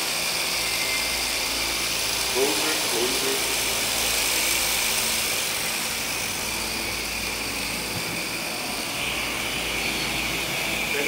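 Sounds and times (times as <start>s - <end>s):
rc helicopter whirring: 0.0s - 11.0s.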